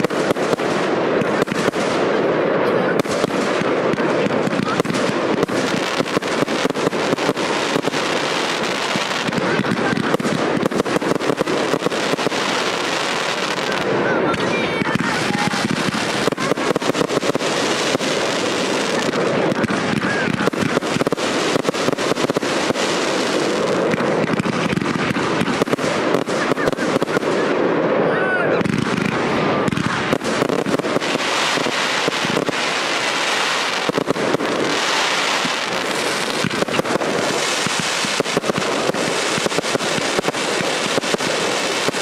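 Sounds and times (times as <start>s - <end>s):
fireworks firing and bursting: 0.0s - 42.0s.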